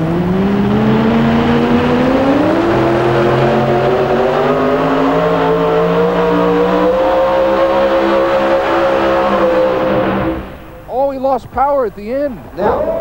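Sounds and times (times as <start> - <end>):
supercharged engine at full throttle: 0.0 - 10.9.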